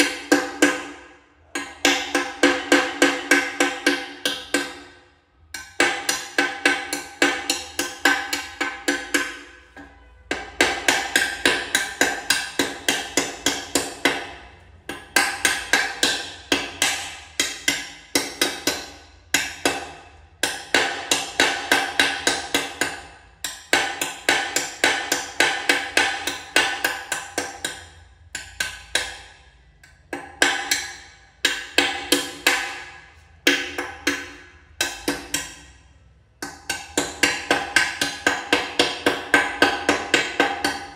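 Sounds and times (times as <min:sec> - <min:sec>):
rapid tapping on floor tiles: 0:00.0 - 0:40.9.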